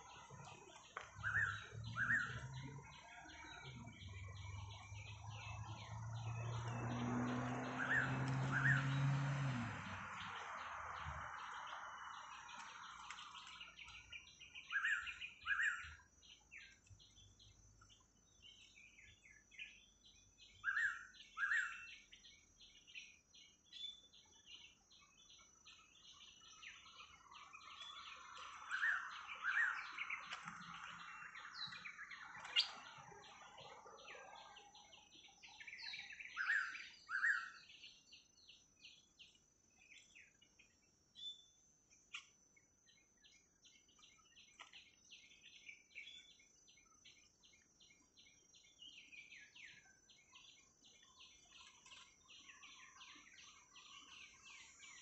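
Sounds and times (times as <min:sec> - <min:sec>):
faint high insect drone: 0:00.0 - 0:55.0.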